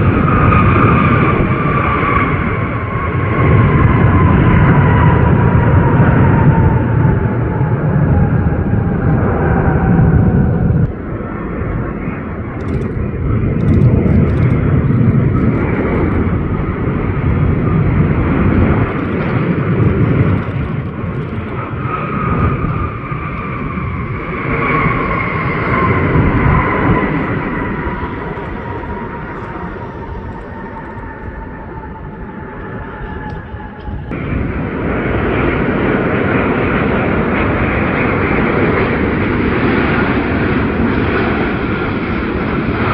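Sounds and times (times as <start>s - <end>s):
jet engines passing close: 0.0s - 42.9s.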